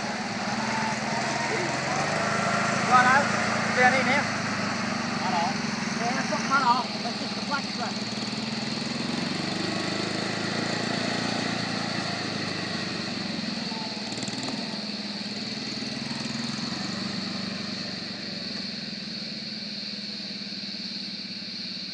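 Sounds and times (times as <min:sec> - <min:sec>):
truck engine running: 0:00.0 - 0:21.9.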